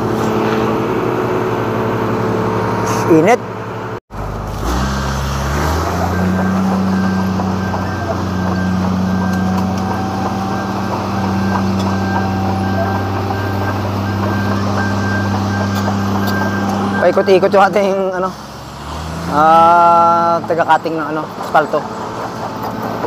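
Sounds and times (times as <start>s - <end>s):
milling machine engine drone: 0.0s - 23.0s.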